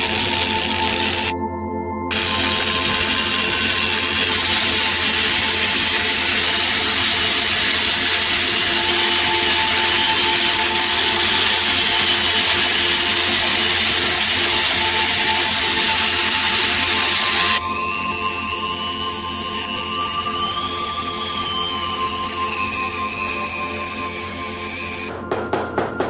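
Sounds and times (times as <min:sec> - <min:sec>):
power tool whirring: 0:00.0 - 0:01.4, 0:02.1 - 0:25.1.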